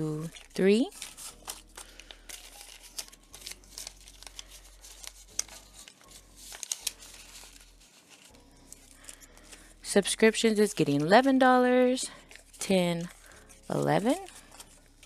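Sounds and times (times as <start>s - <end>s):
banknotes and plastic rustling: 0.0s - 15.0s.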